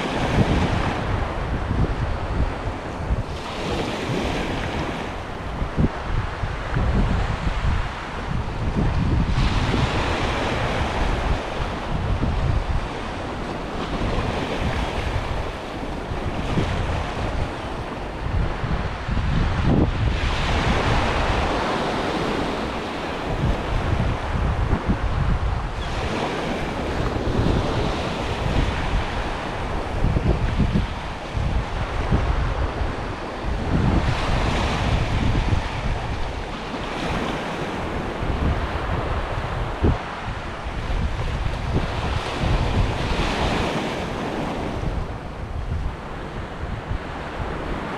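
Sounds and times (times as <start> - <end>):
sea waves breaking on shore: 0.0 - 47.9
wind buffeting microphone: 0.0 - 47.9.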